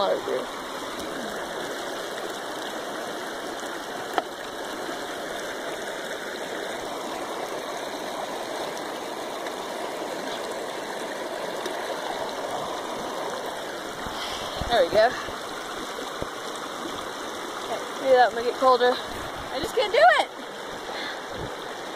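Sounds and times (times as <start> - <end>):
river water over rocks: 0.0 - 21.9.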